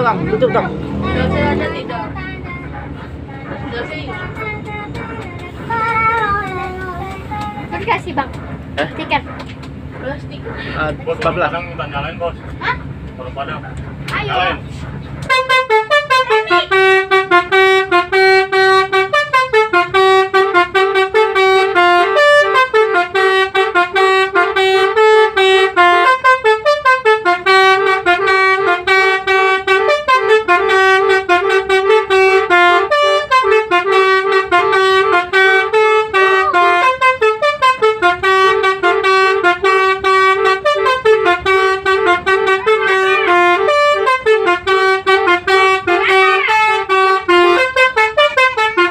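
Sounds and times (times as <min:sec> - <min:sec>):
musical bus horn tune: 0:00.0 - 0:09.2, 0:14.0 - 0:48.9.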